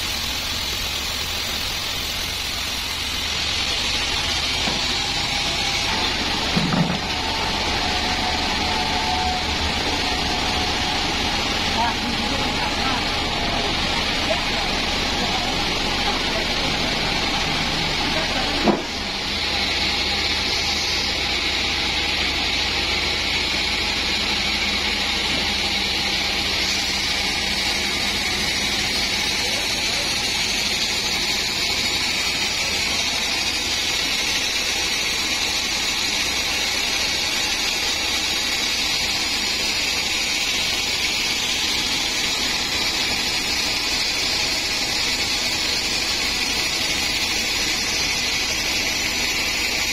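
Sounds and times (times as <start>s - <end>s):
band saw running: 0.0s - 49.9s.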